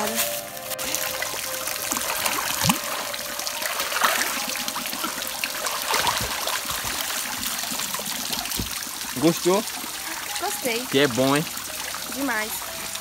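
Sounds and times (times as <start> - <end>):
water trickling into pool: 0.0 - 13.0.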